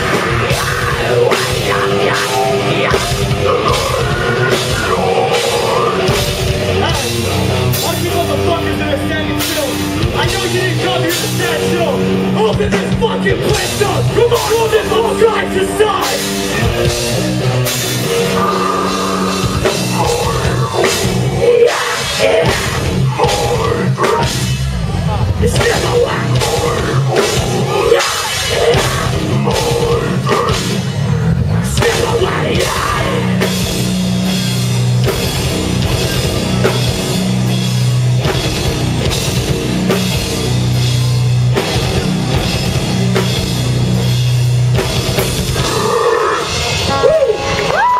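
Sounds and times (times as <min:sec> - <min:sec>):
drum kit: 0:00.0 - 0:47.9
heavy metal band playing: 0:00.0 - 0:47.9
held low notes: 0:00.0 - 0:47.9.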